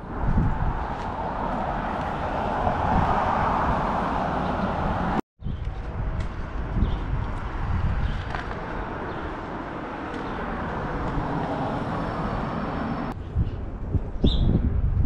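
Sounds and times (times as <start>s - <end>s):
road traffic noise: 0.0s - 14.9s.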